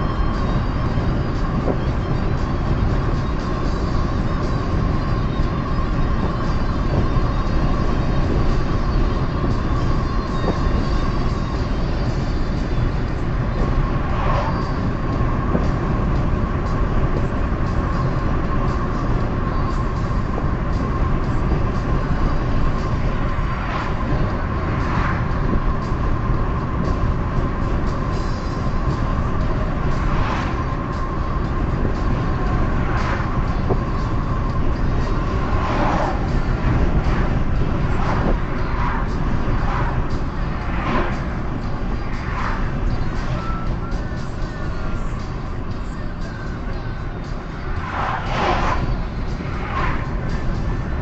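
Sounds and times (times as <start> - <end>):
car road noise rumble: 0.0 - 51.0.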